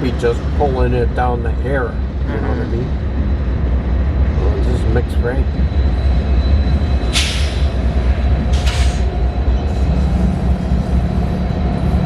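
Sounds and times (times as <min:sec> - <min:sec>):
train cars rumbling on rails: 0:00.0 - 0:12.0.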